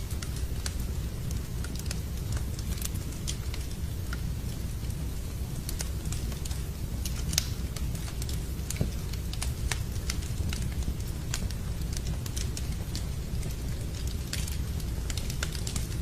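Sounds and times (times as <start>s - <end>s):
rain rumbling: 0.0s - 16.0s
wood fire crackling: 0.0s - 16.0s.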